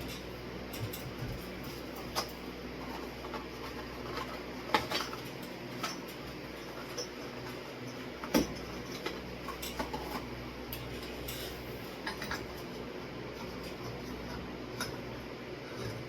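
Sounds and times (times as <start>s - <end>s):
steady fan hum: 0.0s - 16.0s.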